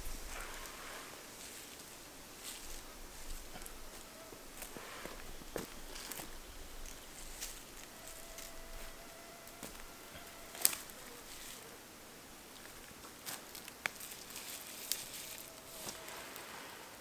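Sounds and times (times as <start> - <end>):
footsteps crunching on dry ground: 0.0 - 16.6.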